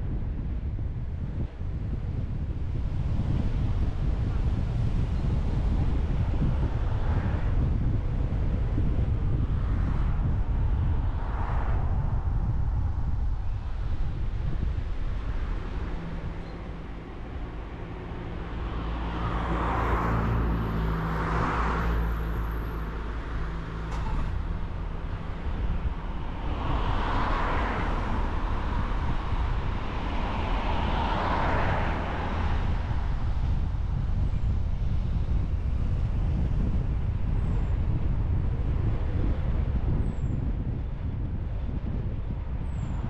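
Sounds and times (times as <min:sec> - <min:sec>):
road and engine rumble: 0:00.0 - 0:43.0
steady engine hum: 0:00.0 - 0:43.0.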